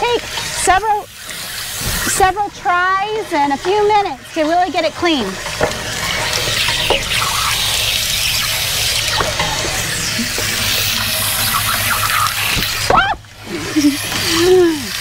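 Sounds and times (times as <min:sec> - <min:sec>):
water gushing and splashing: 0:00.0 - 0:15.0.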